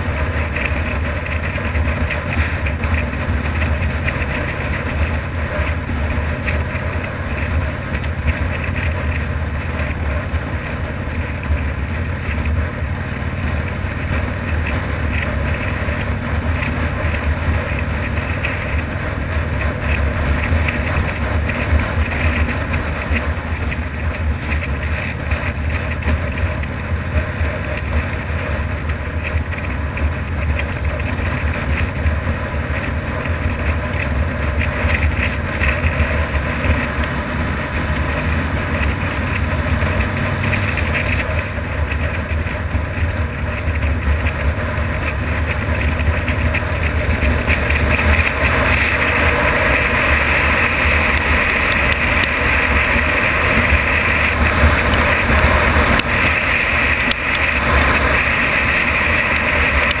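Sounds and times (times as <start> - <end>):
motorcycle engine running: 0.0 - 60.0
road noise: 0.0 - 60.0
wind: 0.0 - 60.0.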